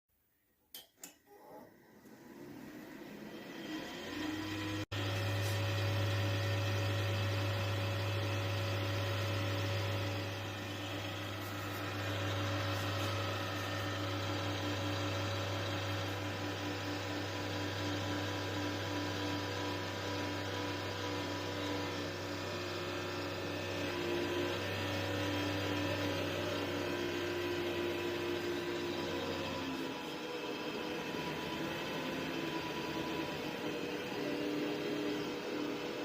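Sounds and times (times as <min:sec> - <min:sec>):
computer fan whirring: 0:02.2 - 0:36.0.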